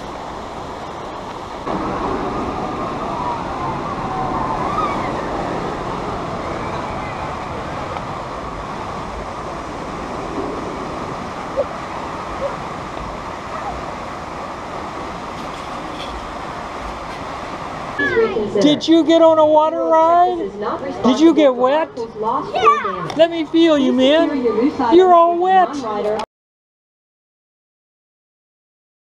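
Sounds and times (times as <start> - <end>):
white water rushing: 0.0 - 26.0.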